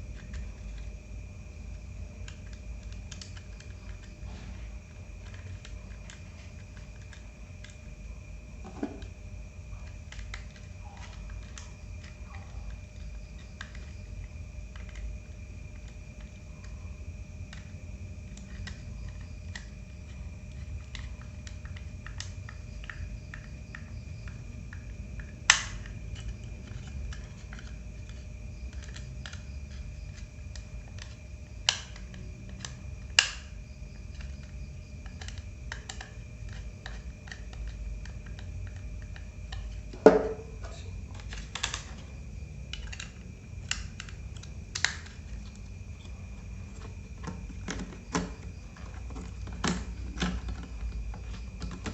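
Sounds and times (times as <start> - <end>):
faint steady whine: 0.0 - 51.9
laptop parts clicking: 0.0 - 51.9.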